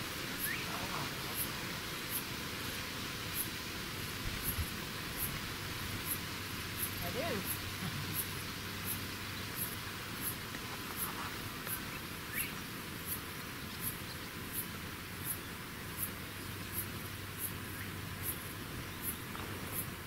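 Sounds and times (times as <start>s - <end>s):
insect chirping: 0.0s - 20.0s
outdoor hiss: 0.0s - 20.0s.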